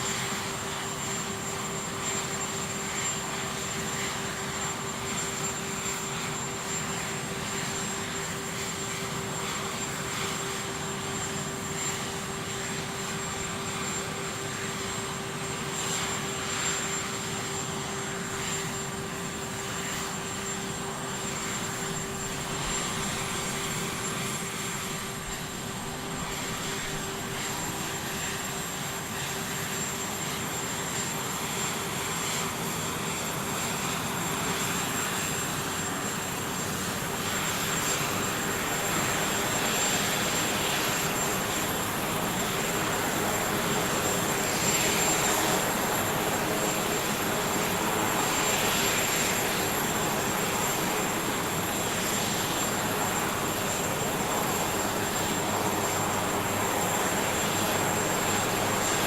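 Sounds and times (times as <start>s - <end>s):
aircraft engines running: 0.0s - 59.0s.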